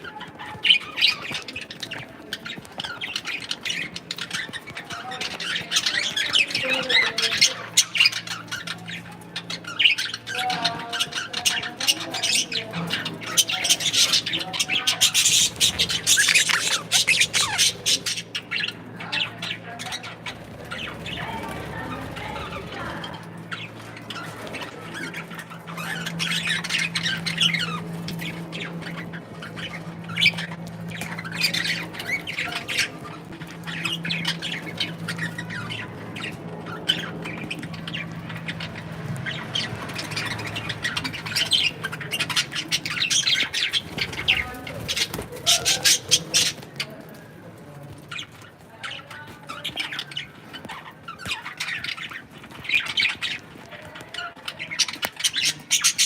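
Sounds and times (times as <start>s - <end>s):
parrots chattering and squawking: 0.0s - 56.0s.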